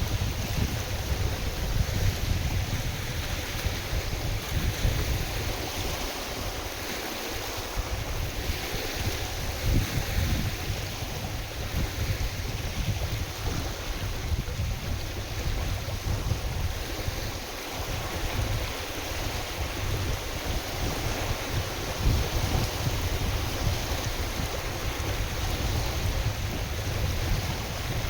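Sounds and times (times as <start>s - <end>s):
waves washing on a lake: 0.0s - 28.0s
wind buffeting microphone: 0.0s - 28.0s.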